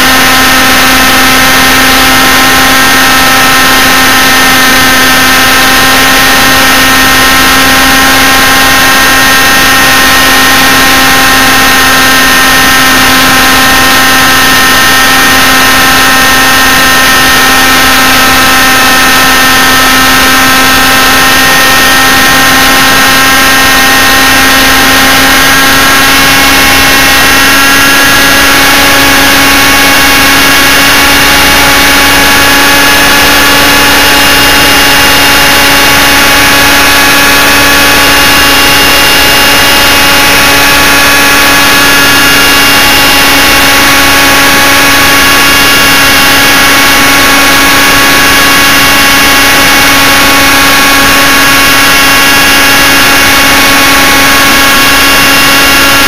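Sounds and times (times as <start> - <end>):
model helicopter engine and rotor: 0.0 - 56.0.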